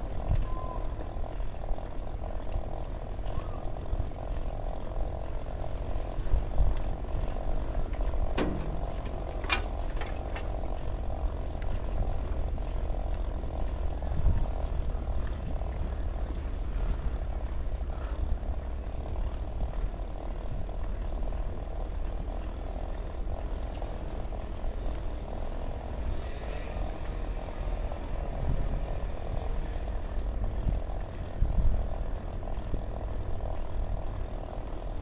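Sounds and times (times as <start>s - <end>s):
bicycle tyre noise on asphalt: 0.0s - 35.0s
constant mid-pitched hum: 0.0s - 35.0s
wind rumble on microphone: 0.0s - 35.0s.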